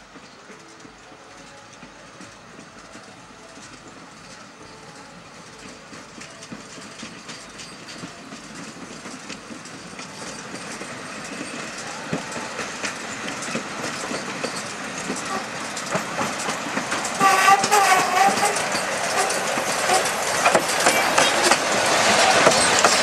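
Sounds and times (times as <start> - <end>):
steam locomotive approaching: 0.0 - 23.0
wheels clicking on track: 0.0 - 23.0.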